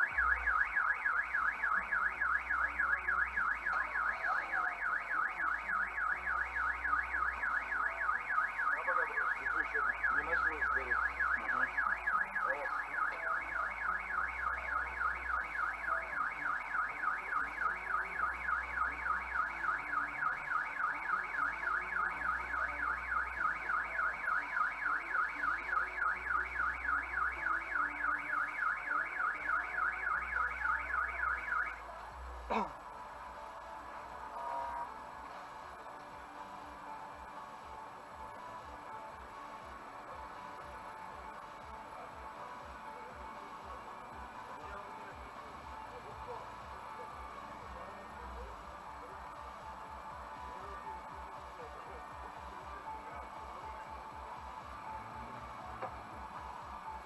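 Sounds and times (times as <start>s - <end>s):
car alarm siren warbling: 0.0s - 57.0s.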